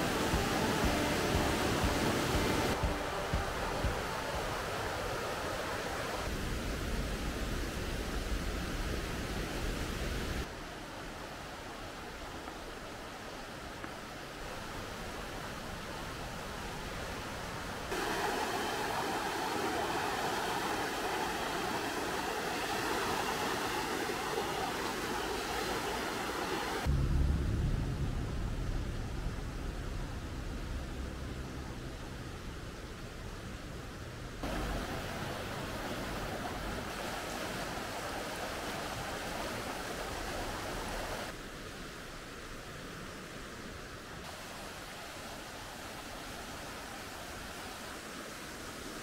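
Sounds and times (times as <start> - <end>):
water rushing over rocks: 0.0 - 33.8, 34.4 - 49.0.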